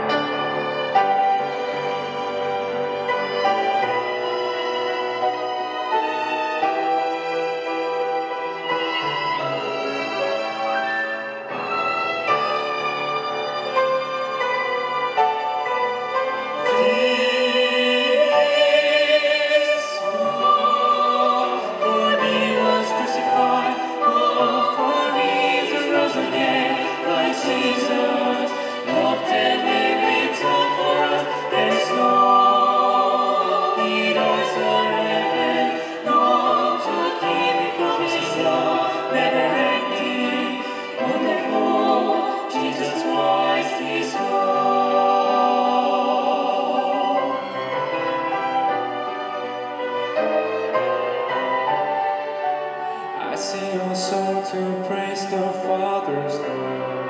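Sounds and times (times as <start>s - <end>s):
classical-style singing: 0.0s - 57.0s
orchestra bowed strings: 0.0s - 57.0s.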